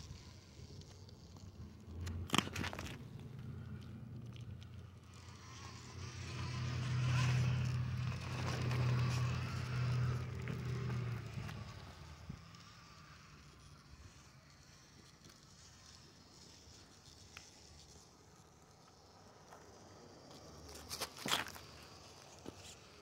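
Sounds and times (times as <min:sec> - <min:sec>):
small electric motor buzzing: 0:00.0 - 0:23.0.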